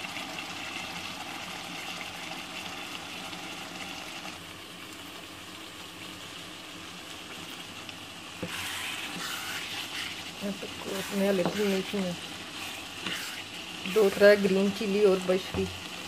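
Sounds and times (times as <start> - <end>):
curry bubbling in a pot: 0.0 - 16.0.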